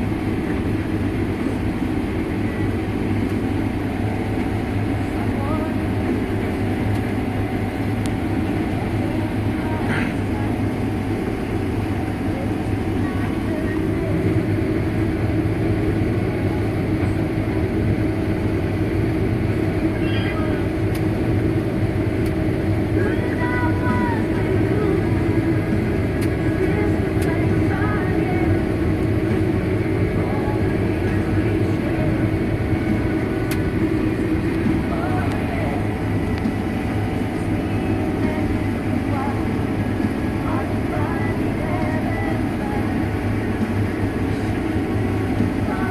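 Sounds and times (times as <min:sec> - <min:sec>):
combine harvester running: 0:00.0 - 0:45.9.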